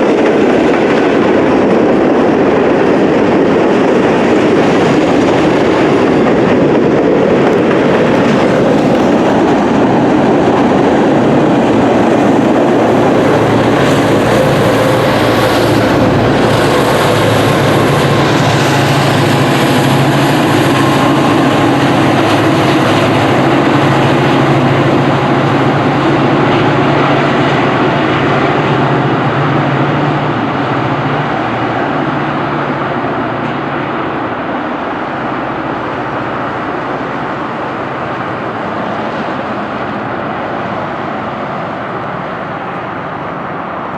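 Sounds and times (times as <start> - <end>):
diesel locomotive engines droning: 0.0 - 43.9
freight train wheels rolling: 0.0 - 43.9.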